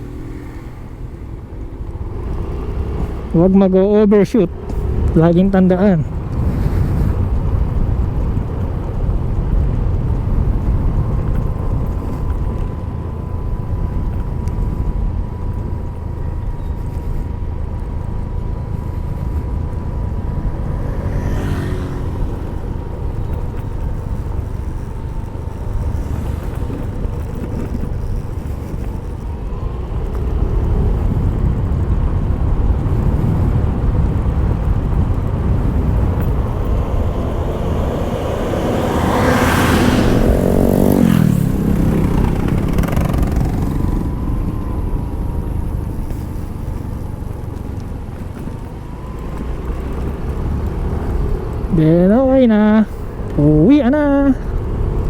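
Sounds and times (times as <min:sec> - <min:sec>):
scooter engine: 0:00.0 - 0:55.0
wind and road noise: 0:00.0 - 0:55.0.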